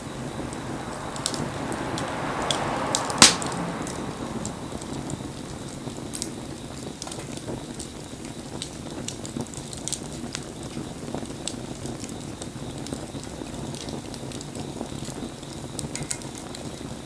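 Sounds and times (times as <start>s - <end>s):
burning wood crackling and popping: 0.0s - 17.0s
rush of flame: 0.0s - 17.0s.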